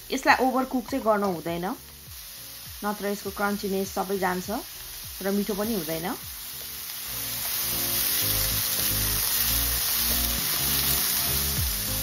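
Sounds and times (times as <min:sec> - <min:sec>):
background music with low notes: 0:00.0 - 0:12.0
vegetables sizzling in a wok: 0:00.0 - 0:12.0.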